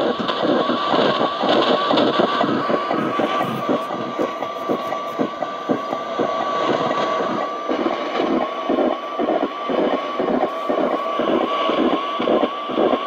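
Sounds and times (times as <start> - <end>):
radio static crackling: 2.2 - 13.0.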